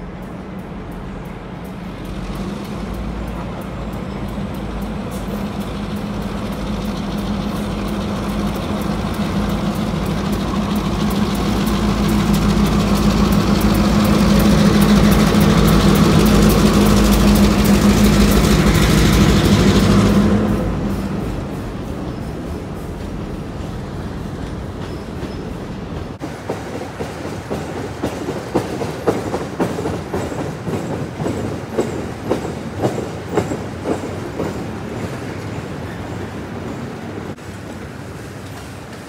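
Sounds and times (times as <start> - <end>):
diesel locomotive engine drone: 0.0 - 39.0.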